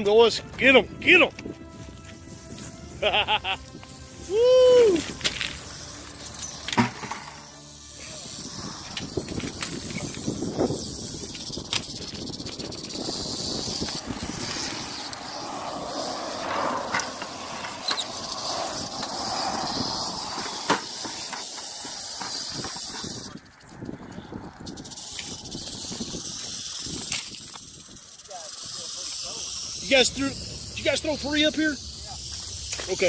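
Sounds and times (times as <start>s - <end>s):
rattlesnake rattling: 2.2s - 33.0s.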